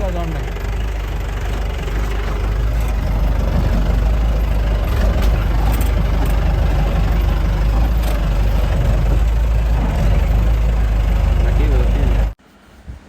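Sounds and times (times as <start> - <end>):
off-road engine at low revs: 0.0 - 12.4.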